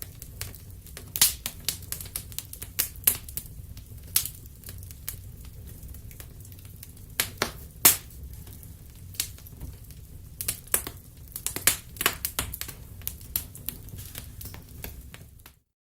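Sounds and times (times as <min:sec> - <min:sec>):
fire crackling and popping: 0:00.0 - 0:15.6.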